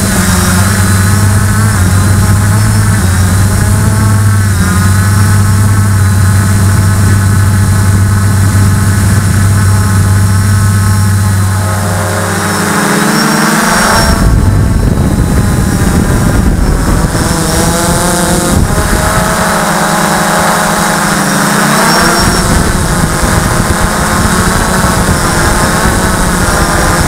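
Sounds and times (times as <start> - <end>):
drone propellers buzzing: 0.0 - 27.0
wind on microphone: 0.0 - 27.0.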